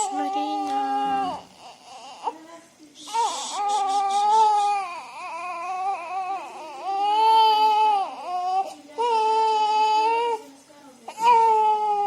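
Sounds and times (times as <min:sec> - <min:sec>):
newborn baby crying: 0:00.0 - 0:10.5, 0:11.1 - 0:12.0.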